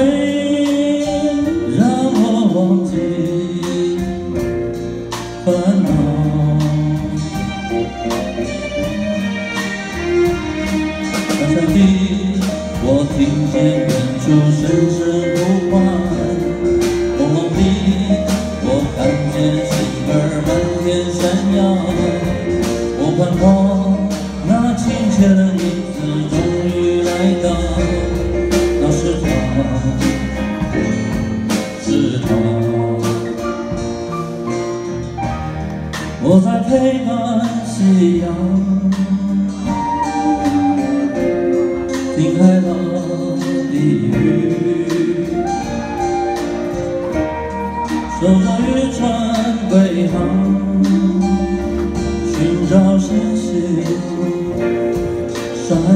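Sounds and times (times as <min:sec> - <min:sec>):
man singing: 0:00.0 - 0:34.6, 0:35.2 - 0:55.9
acoustic guitar: 0:00.0 - 0:55.9
bass: 0:00.0 - 0:55.9
drums keeping a steady beat: 0:00.0 - 0:55.9.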